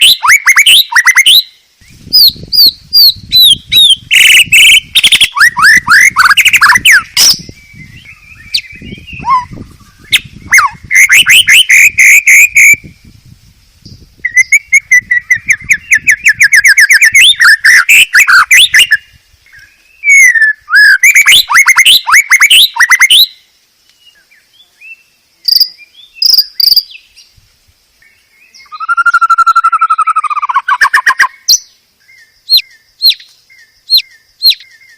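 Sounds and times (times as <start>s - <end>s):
bird singing trills: 0.0s - 13.1s, 13.8s - 27.3s, 28.0s - 34.9s.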